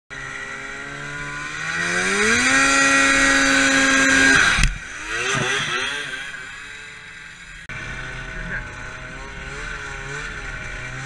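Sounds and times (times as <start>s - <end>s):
snowmobile engine revving: 0.1s - 11.0s.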